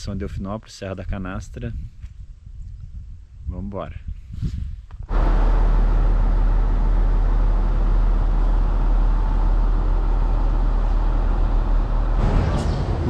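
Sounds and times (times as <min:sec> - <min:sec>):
wind and road noise rumble: 0:00.0 - 0:13.0.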